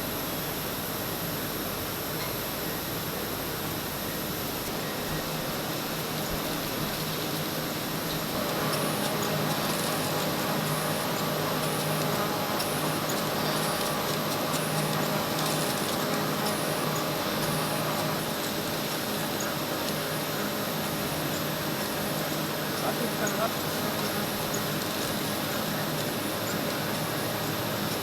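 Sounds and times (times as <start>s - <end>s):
factory machinery humming: 3.8s - 28.0s.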